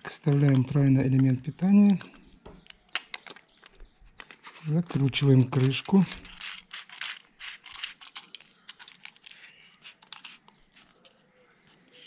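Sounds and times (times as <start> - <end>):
plastic cap thread scrapes and clicks: 0.2 - 11.2.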